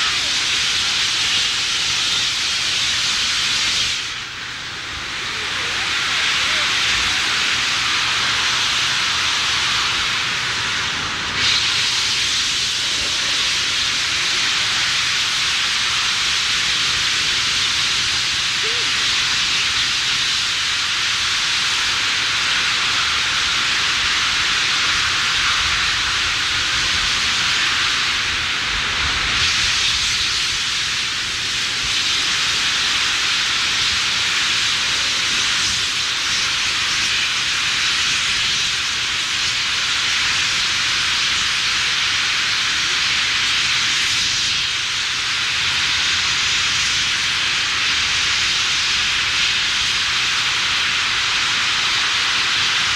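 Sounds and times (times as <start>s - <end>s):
gas flames hissing: 0.0s - 52.9s
water cascading: 0.0s - 52.9s.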